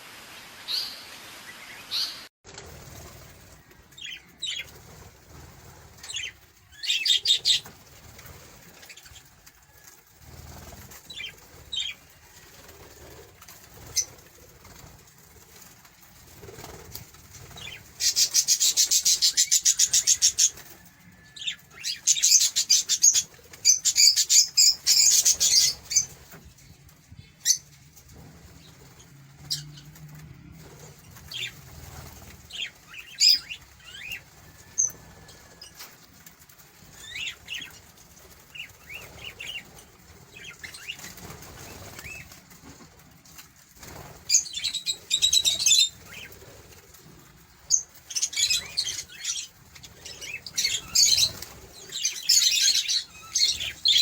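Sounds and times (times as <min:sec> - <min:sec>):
small birds chirping: 0:00.7 - 0:54.0
rapid fluttering high bird notes: 0:01.6 - 0:54.0.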